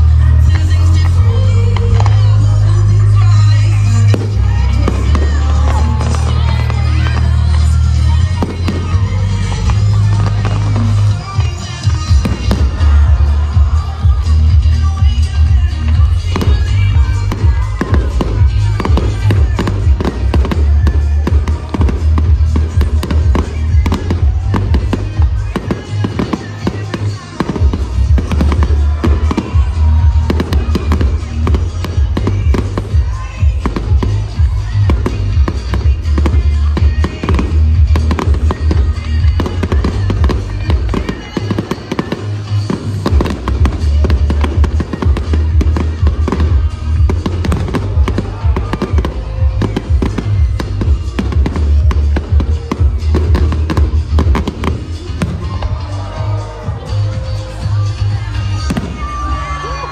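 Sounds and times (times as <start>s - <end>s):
music with heavy bass: 0.0s - 59.9s
fireworks popping and banging: 3.2s - 55.9s.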